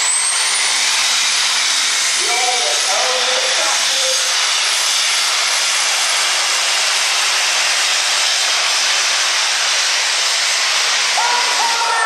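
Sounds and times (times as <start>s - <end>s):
diesel tractor engine at full throttle: 0.0s - 12.0s
high turbo whine: 0.0s - 12.0s.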